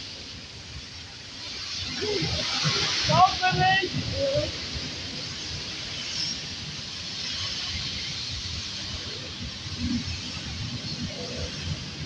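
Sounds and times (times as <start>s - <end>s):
train wheels rumbling on rails: 1.4s - 12.0s.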